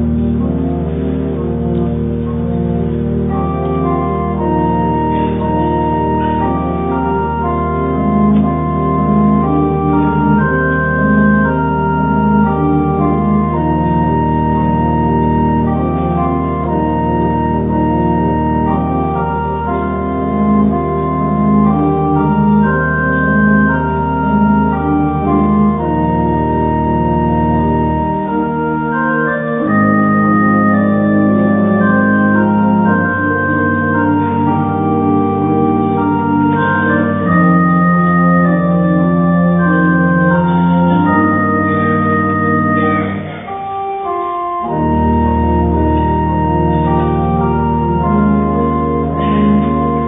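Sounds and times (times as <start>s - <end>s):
church organ playing slow piece: 0.0s - 50.0s.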